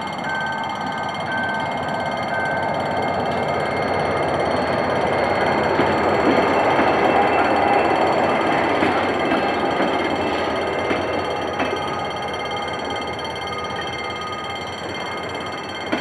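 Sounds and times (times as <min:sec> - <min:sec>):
level-crossing warning beeps: 0:00.0 - 0:16.0
locomotive engine and wheel noise: 0:00.0 - 0:16.0.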